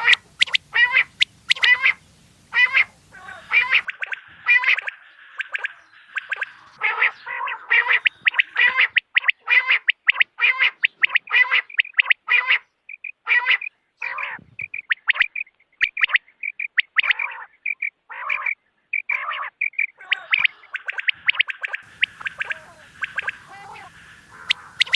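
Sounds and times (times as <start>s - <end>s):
quail calls: 0.0s - 24.9s.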